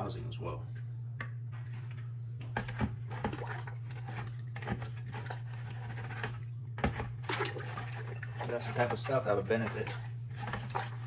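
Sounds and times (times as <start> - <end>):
steady low hum: 0.0 - 11.0
plastic knocks and scrapes: 1.6 - 11.0.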